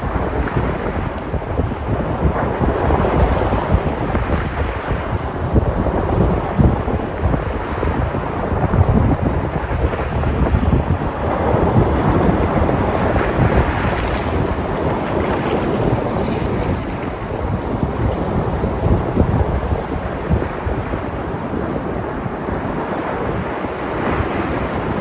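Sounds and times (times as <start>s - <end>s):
waves breaking on shore: 0.0s - 25.0s
wind buffeting microphone: 0.0s - 25.0s.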